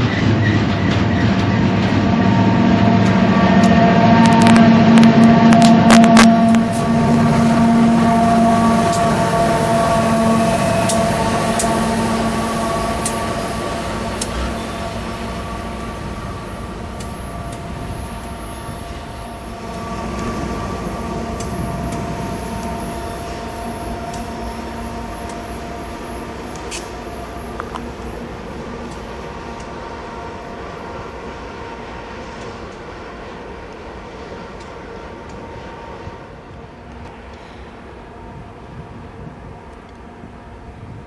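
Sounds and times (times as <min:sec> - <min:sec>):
train diesel engine drone: 0:00.0 - 0:41.0
train wheels clicking on rails: 0:00.0 - 0:41.0.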